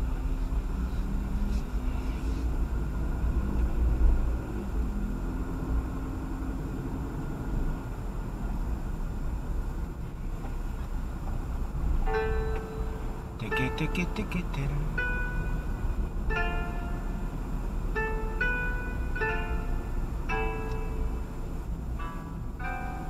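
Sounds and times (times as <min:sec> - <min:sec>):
car engine rumble inside cabin: 0:00.0 - 0:23.0.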